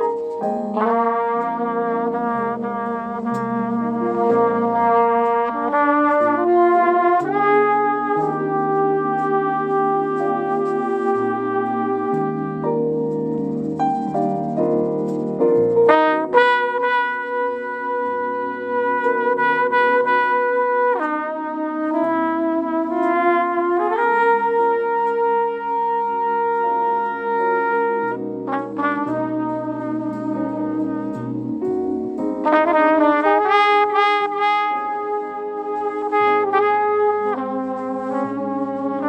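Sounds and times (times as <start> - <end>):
backing accompaniment: 0.0 - 39.0
jazz trumpet ballad: 0.0 - 39.0.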